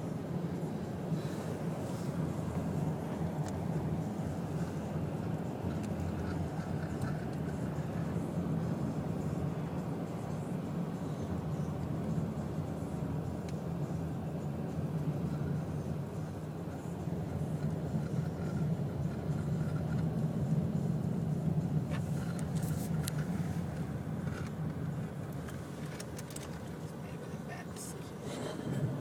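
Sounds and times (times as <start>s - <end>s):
car engine and tyre hum: 0.0s - 29.0s.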